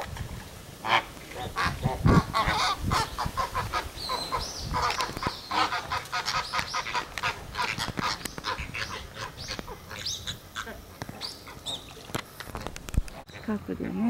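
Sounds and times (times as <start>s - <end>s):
flamingos honking: 0.0s - 13.6s.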